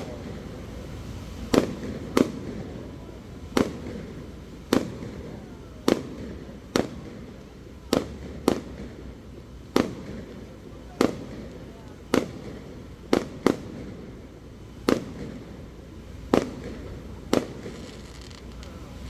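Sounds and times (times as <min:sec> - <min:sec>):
fireworks bursting with bangs: 0:00.0 - 0:19.0.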